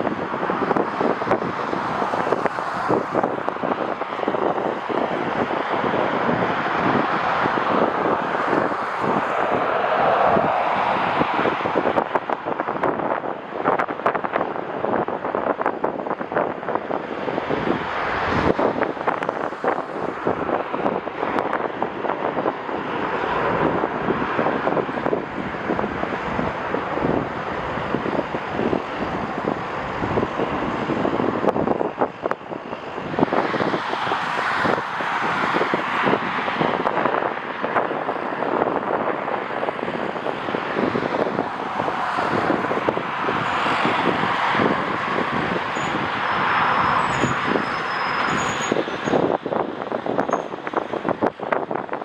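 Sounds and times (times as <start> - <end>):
jet airliner engine noise: 0.0 - 52.0
wind buffeting microphone: 0.0 - 52.0.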